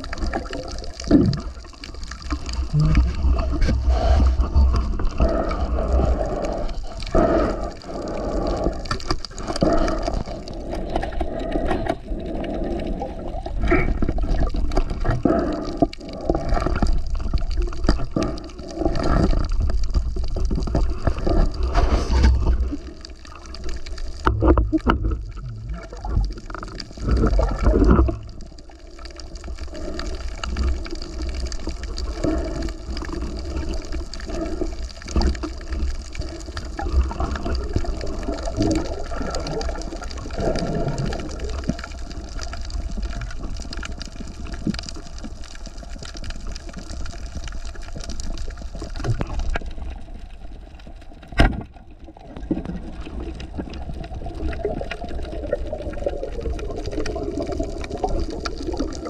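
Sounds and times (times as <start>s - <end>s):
water sloshing and gurgling: 0.0s - 59.0s.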